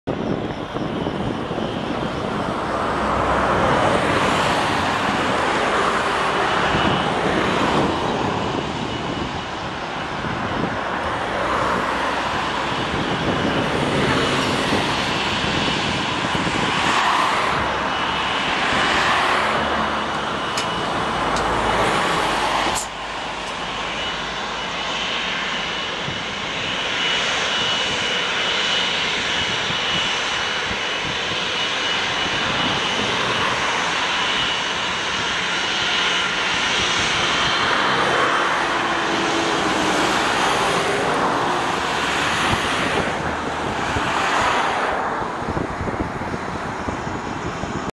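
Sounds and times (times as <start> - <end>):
jet engines running: 0.1 - 47.9.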